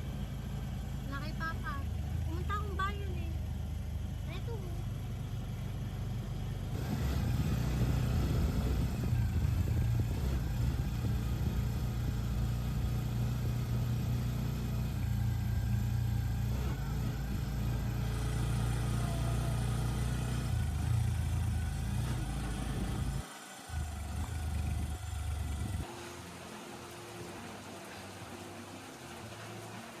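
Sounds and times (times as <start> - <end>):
road noise: 0.0 - 30.0
vehicle engine running: 0.0 - 30.0.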